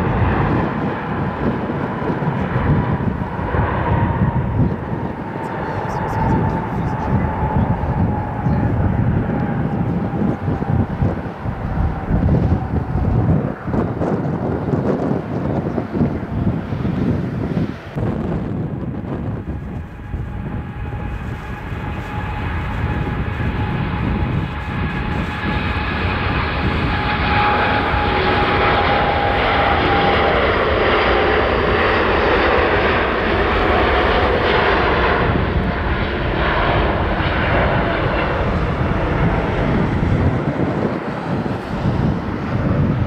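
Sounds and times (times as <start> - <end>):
jet engine fan whine: 0.0 - 43.0
jet engines at take-off thrust: 0.0 - 43.0.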